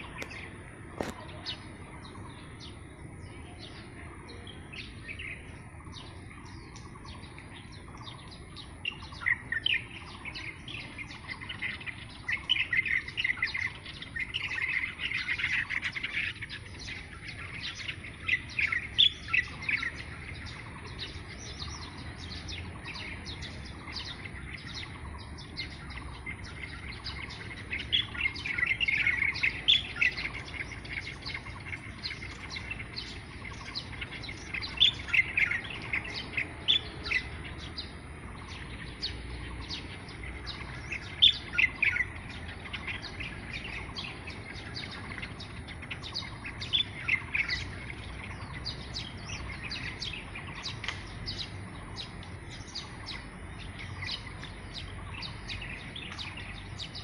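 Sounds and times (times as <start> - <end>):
small songbirds chirping: 0.0 - 57.0.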